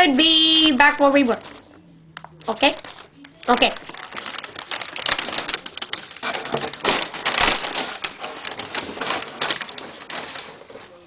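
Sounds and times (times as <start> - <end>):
crackling and rustling handling noise: 0.6 - 11.0.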